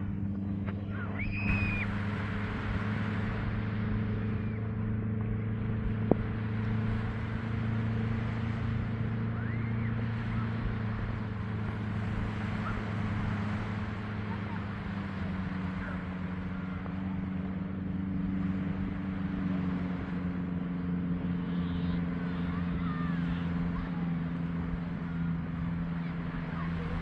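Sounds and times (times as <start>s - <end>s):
beach noise: 0.0s - 27.0s
low engine drone: 0.0s - 27.0s.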